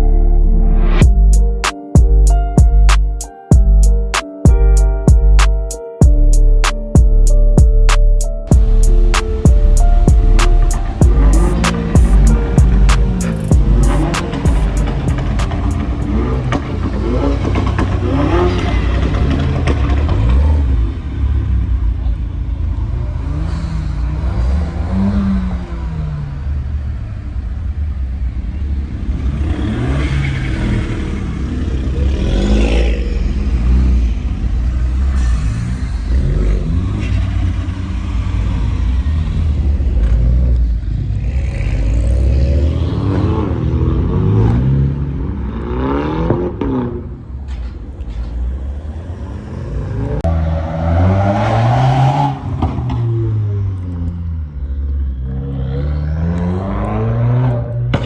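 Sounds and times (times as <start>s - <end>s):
car engines revving and passing: 8.6s - 58.0s.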